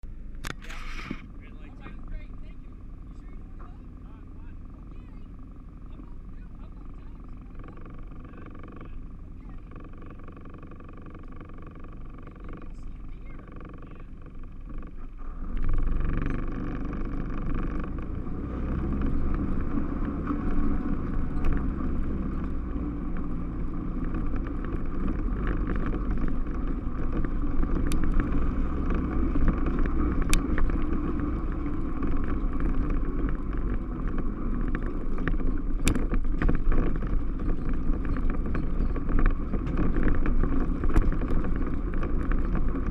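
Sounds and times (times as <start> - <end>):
vehicle engine running and driving: 0.0 - 42.9
sharp clicks and knocks: 7.6 - 42.9.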